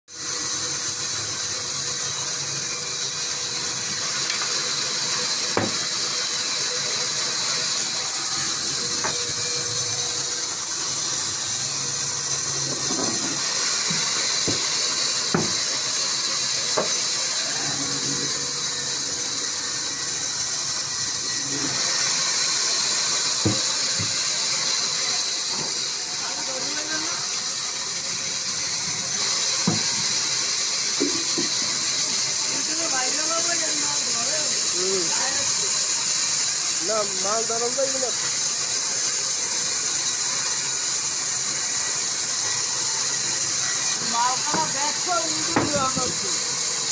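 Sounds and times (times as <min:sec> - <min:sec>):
band saw cutting log: 0:00.1 - 0:46.9.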